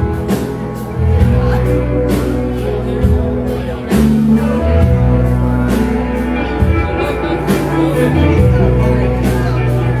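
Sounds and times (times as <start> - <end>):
bass line: 0.0 - 10.0
drums and cymbal hits: 0.0 - 10.0
electric guitar: 0.0 - 10.0.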